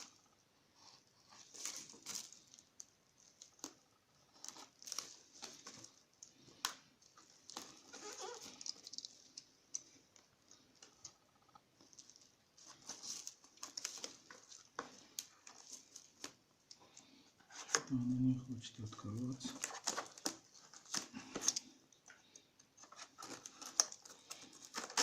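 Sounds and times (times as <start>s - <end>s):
packaging crinkling: 0.0s - 18.0s, 18.7s - 25.0s.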